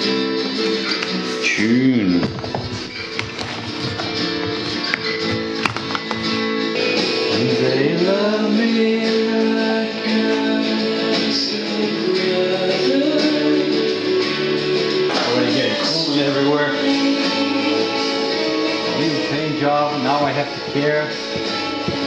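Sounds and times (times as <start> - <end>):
guitar-led song with singing: 0.0 - 22.0.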